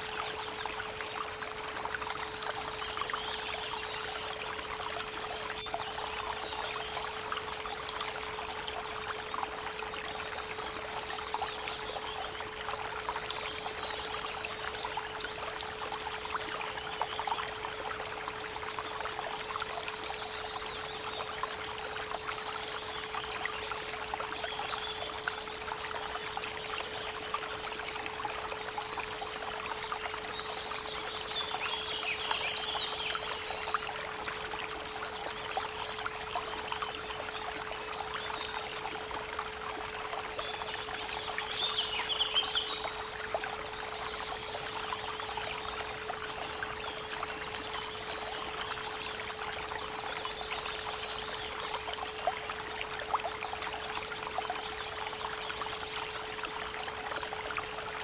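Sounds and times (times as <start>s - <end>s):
creek water running: 0.0s - 58.0s.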